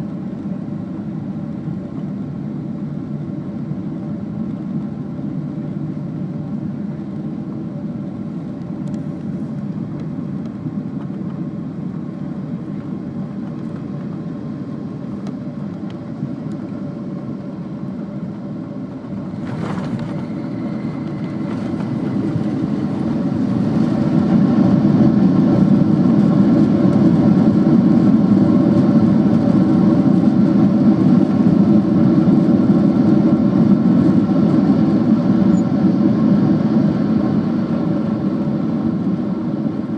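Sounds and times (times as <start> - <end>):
jet airliner cabin roar: 0.0 - 39.9.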